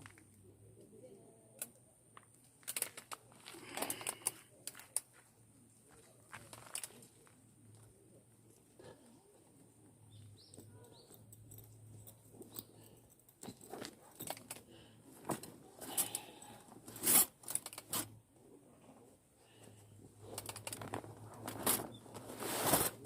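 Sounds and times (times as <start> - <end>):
objects being handled: 1.6 - 9.2, 10.1 - 18.2, 20.0 - 23.0.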